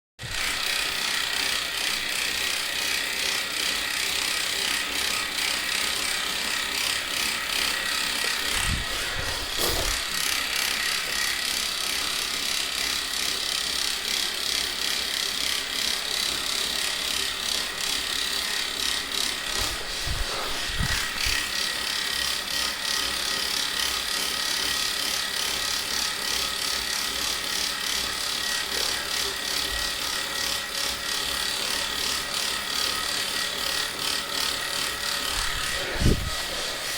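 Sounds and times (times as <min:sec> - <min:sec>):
bike trainer ratcheting clicks: 0:00.2 - 0:08.9, 0:09.5 - 0:36.3
bike trainer high whine: 0:00.2 - 0:36.9.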